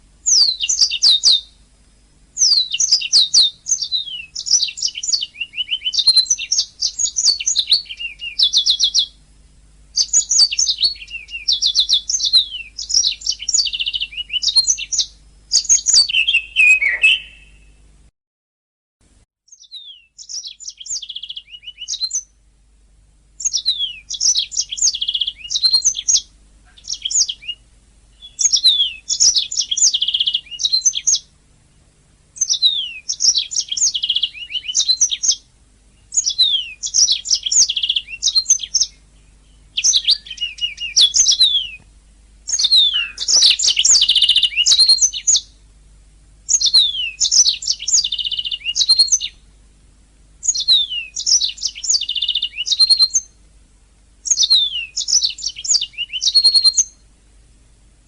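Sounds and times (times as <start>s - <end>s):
canary singing: 0.2s - 1.6s, 2.4s - 9.2s, 10.0s - 17.8s, 19.5s - 22.4s, 23.4s - 31.3s, 32.4s - 45.7s, 46.5s - 49.5s, 50.4s - 53.5s, 54.2s - 57.0s.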